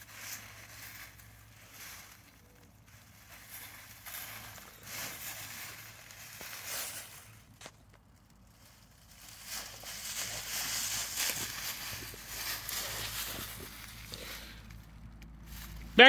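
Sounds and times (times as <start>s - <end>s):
dry leaves rustling and crunching: 0.0s - 16.0s.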